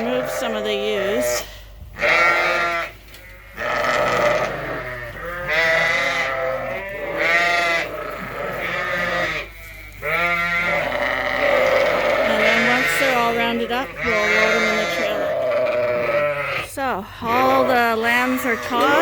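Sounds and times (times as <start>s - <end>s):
sheep bleating: 0.0s - 1.4s, 2.0s - 19.0s.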